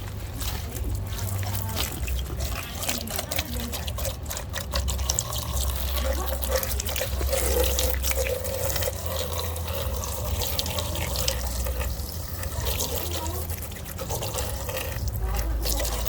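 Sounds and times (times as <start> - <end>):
tap water running and splashing: 0.0 - 16.0.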